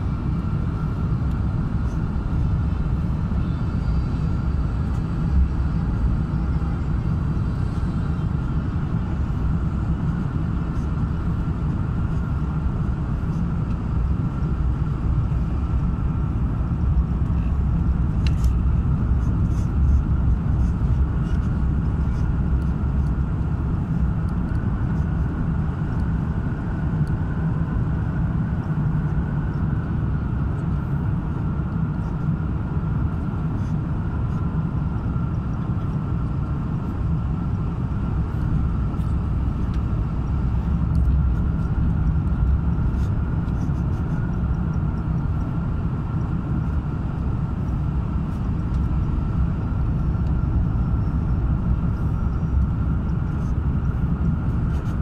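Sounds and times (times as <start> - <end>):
faint steady whine: 0.0 - 55.0
vehicle interior rumble: 0.0 - 55.0.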